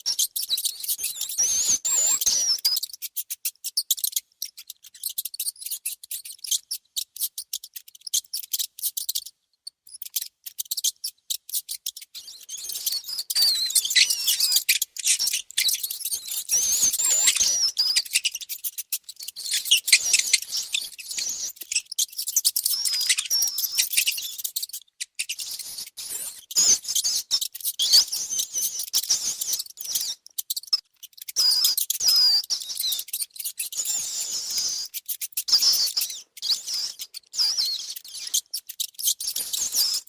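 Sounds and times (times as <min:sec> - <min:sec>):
mice squeaking: 0:00.0 - 0:40.0.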